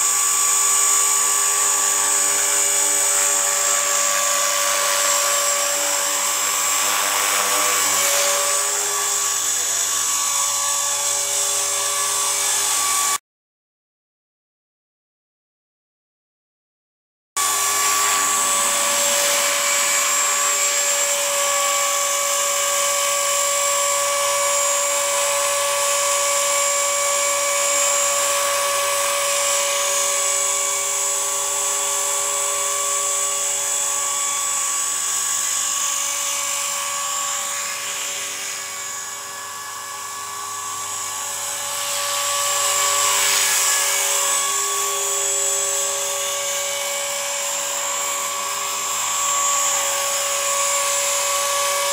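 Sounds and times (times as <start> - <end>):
rc helicopter whine hovering: 0.0 - 13.2, 17.4 - 51.9.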